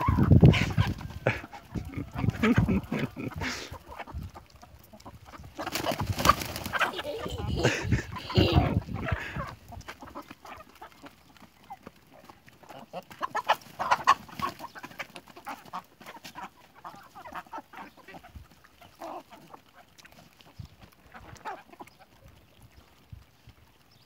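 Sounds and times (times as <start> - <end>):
hens clucking: 0.0 - 23.9.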